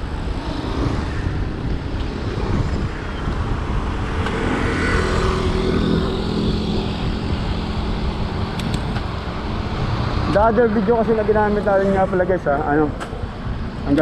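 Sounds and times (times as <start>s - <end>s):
vehicle engine humming: 0.0s - 14.0s
wind rumbling on microphone: 0.0s - 14.0s.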